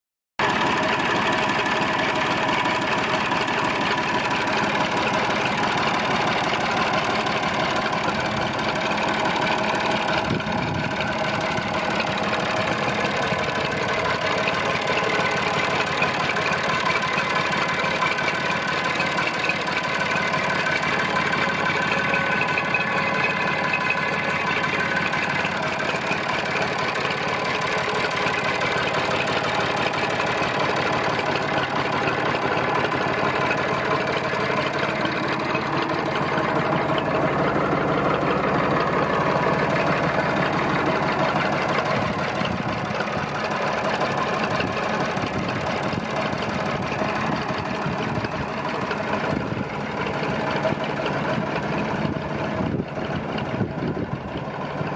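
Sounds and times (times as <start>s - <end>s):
tractor diesel engine idling: 0.4s - 54.9s.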